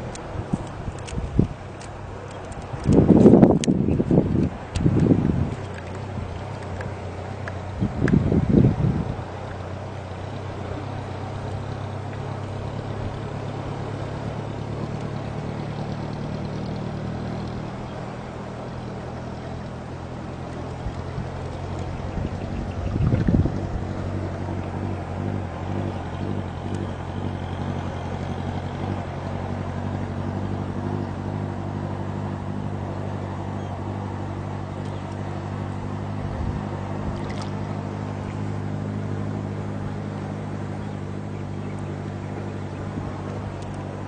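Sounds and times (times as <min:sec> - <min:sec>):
small engine running: 0:00.0 - 0:44.0.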